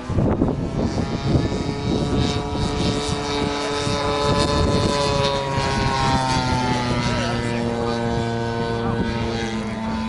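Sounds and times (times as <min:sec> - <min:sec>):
lower engine note: 0:00.0 - 0:10.0
model airplane engine drone: 0:00.0 - 0:10.0.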